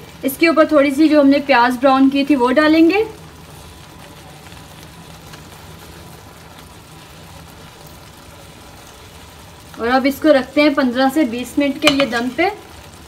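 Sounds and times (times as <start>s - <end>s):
rice sizzling in a pot: 0.0s - 13.0s.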